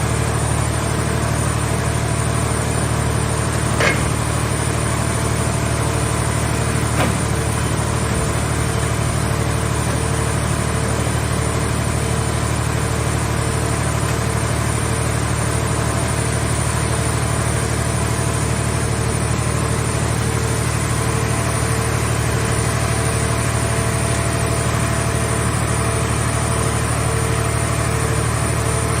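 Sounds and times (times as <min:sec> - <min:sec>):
machine deep drone: 0:00.0 - 0:29.0.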